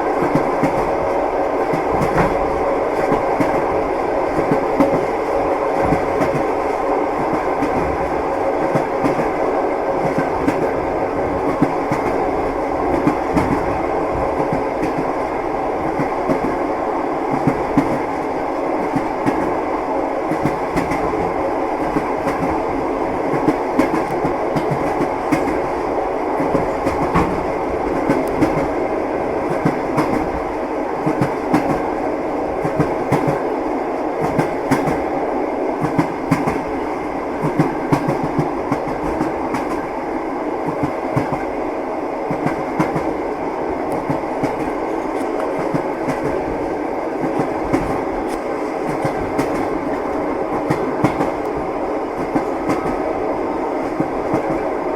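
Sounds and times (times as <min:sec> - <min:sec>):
train rumbling: 0:00.0 - 0:54.9.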